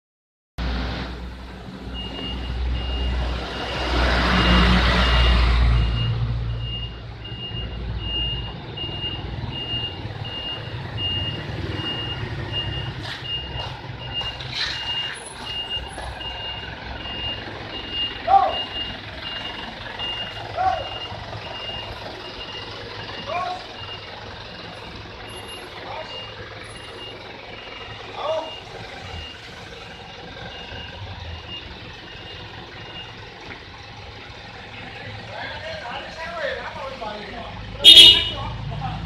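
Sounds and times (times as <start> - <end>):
reversing alarm beeping: 1.9 - 33.2, 37.8 - 38.4.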